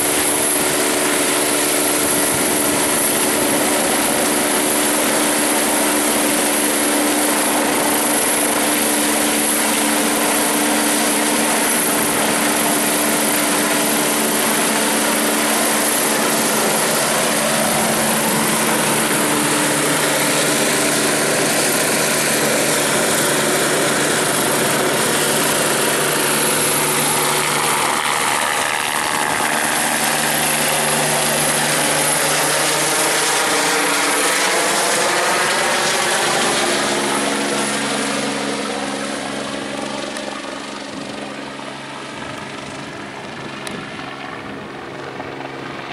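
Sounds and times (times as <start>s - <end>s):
helicopter turbine and rotor noise: 0.0s - 45.9s.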